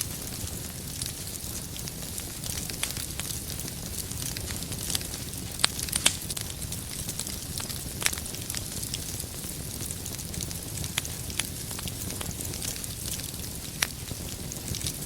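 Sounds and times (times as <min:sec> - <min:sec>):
firewood crackling and popping: 0:00.0 - 0:15.0
wood fire rumbling and hissing: 0:00.0 - 0:15.0.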